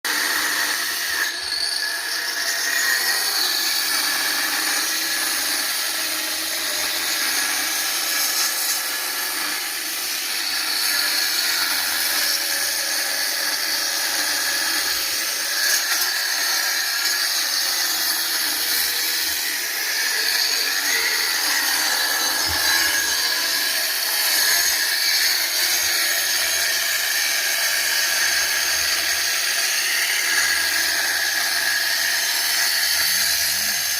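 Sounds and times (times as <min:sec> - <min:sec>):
electric drill whining and grinding: 0:00.1 - 0:33.9.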